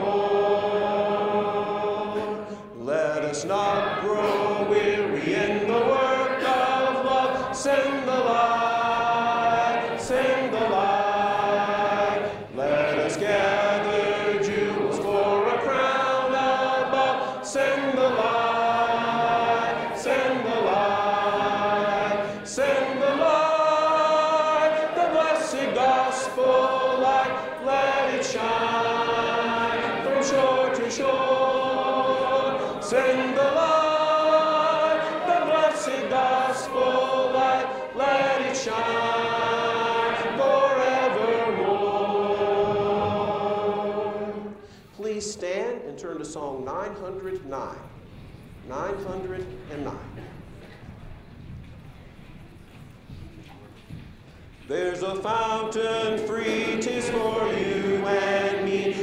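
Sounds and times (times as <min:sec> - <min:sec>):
congregation singing a hymn: 0:00.0 - 0:45.0, 0:54.6 - 0:59.0.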